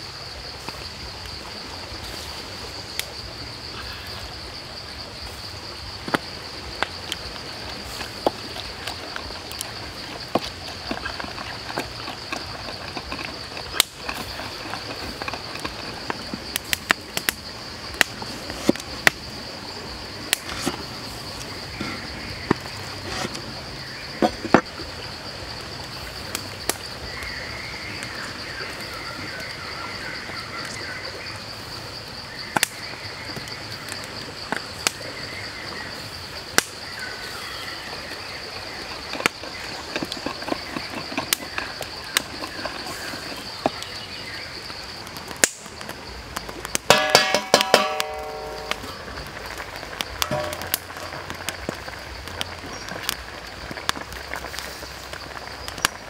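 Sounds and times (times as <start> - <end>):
food bubbling and crackling: 0.0 - 56.0
high insect drone: 0.0 - 56.0.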